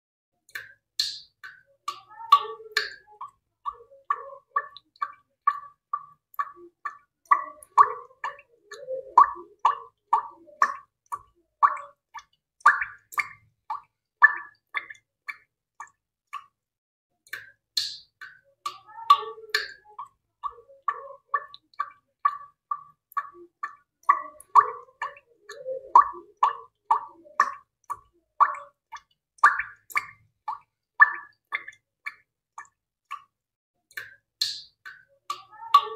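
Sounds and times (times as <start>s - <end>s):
plopping drip-like sounds: 0.5s - 16.6s, 17.3s - 35.9s.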